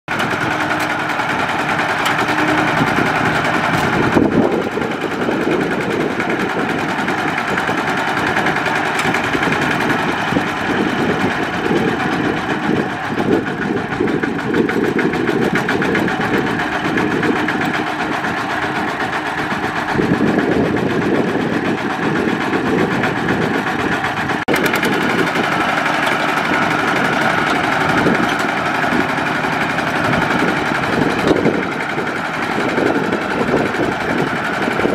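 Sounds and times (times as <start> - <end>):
diesel engine running under load: 0.1 - 34.9.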